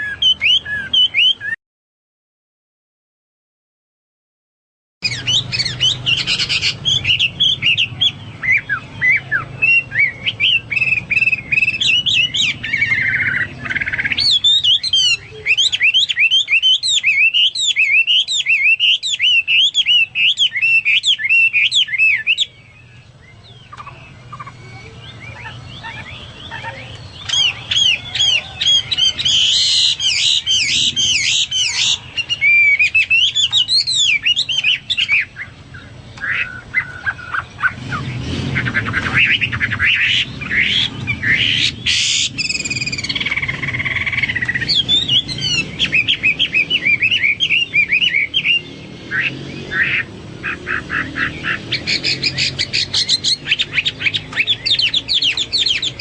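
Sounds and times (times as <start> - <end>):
bird singing whistled phrases: 0.0 - 1.6, 5.0 - 38.1, 39.0 - 50.1.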